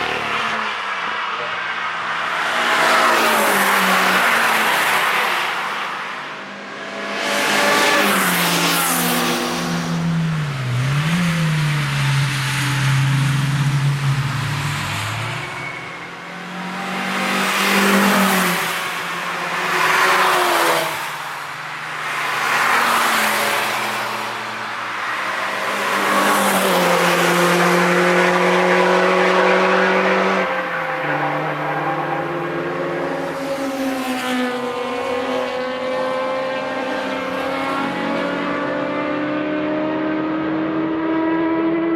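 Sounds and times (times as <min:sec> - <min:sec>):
cars rushing past: 0:00.0 - 0:41.9
race car engines revving: 0:00.0 - 0:41.9.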